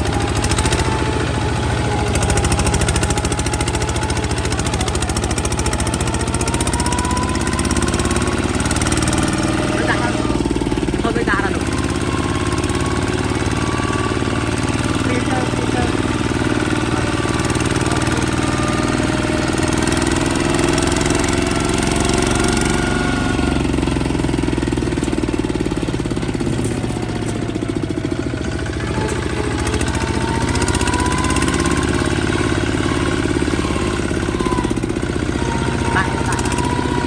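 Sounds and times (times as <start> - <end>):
diesel engine knocking: 0.0 - 37.0.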